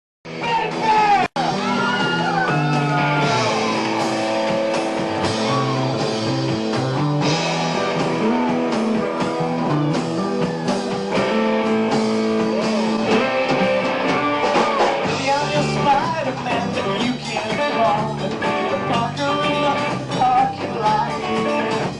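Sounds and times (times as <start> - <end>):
guitar-led rock music: 0.3 - 21.9.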